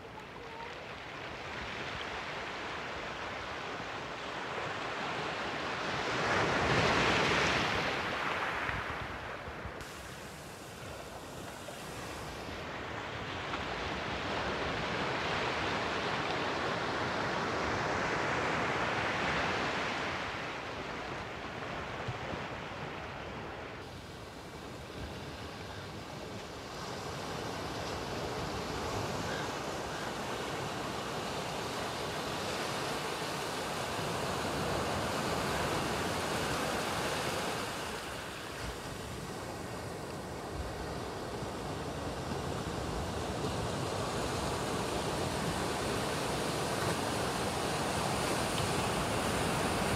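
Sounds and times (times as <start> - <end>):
small waves breaking on sand: 0.0 - 49.9.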